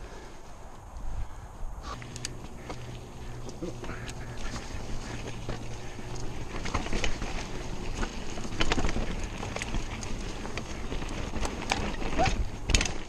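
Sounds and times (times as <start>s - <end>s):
tyre and wind noise: 0.0s - 13.0s
bike knocks and rattles: 1.9s - 13.0s.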